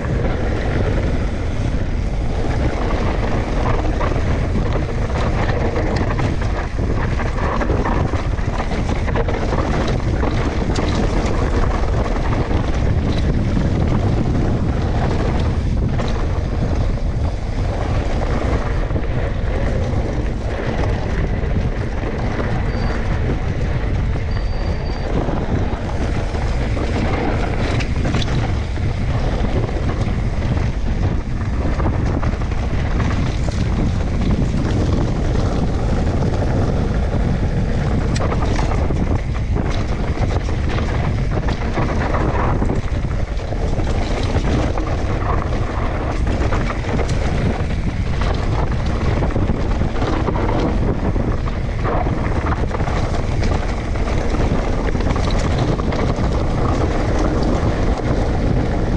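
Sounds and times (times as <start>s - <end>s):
wind buffeting microphone: 0.0s - 58.9s.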